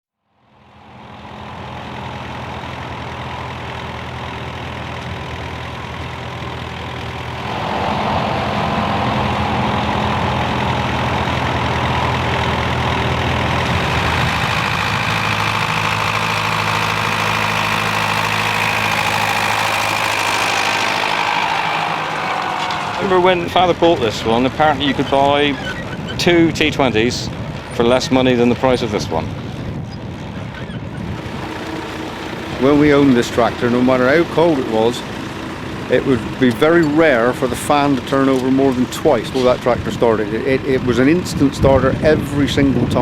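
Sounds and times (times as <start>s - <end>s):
tractor engine running: 0.3s - 43.0s.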